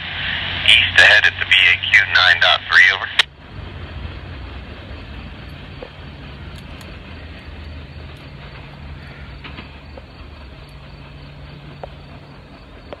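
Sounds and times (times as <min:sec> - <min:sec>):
low drone: 0:00.0 - 0:13.0
train wheels rumbling on rail: 0:00.0 - 0:13.0.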